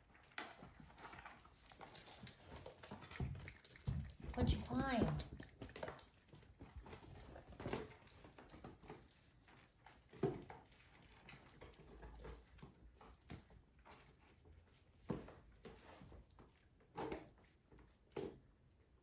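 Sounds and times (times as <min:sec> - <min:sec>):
kittens thumping and scuffling: 0:00.0 - 0:18.5.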